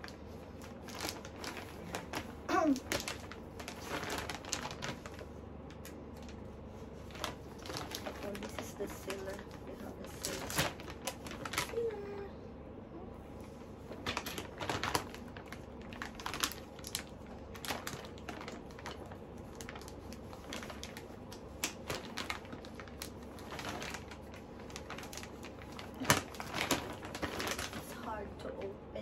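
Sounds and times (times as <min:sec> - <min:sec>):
plastic bag crinkling: 0:00.0 - 0:12.3, 0:13.2 - 0:28.4.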